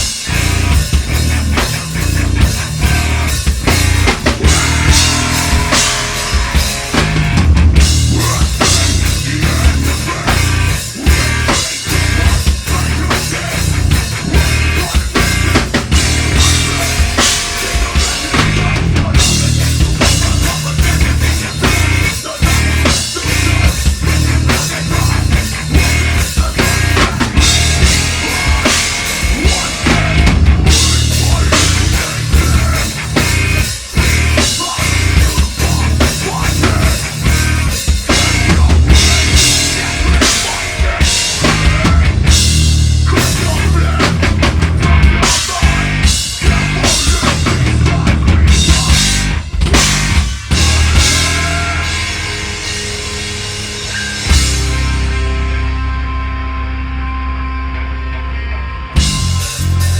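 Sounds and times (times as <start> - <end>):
pounding drum kit: 0.0 - 55.8, 58.9 - 59.9
heavy metal band playing: 0.0 - 59.9.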